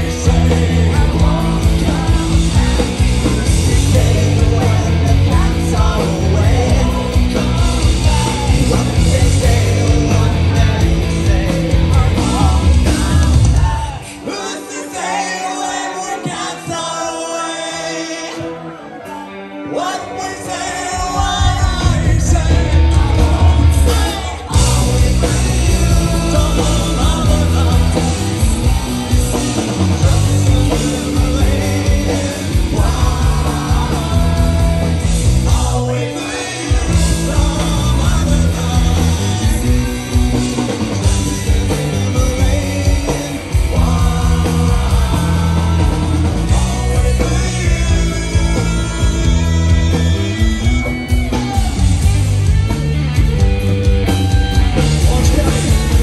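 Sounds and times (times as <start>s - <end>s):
man singing: 0.0s - 52.1s, 54.8s - 56.0s
live rock band: 0.0s - 56.0s.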